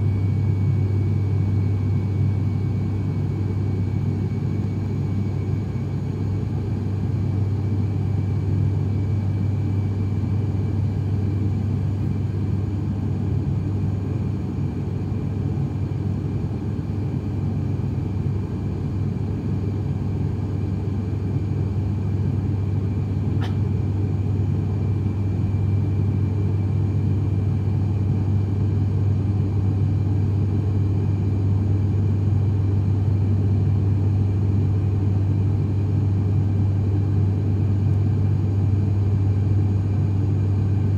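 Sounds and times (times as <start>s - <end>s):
propeller engine drone: 0.0s - 40.9s.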